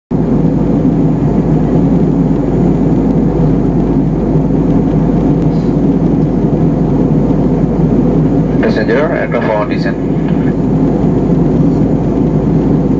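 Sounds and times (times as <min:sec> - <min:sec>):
airliner cabin engine rush: 0:00.1 - 0:12.9
constant low hum: 0:00.1 - 0:12.9.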